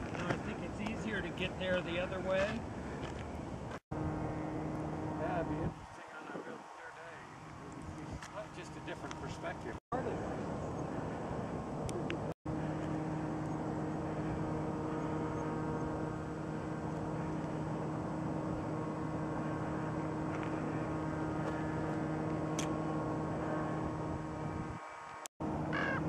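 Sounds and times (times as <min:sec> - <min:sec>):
distant engine hum: 0:00.0 - 0:26.0.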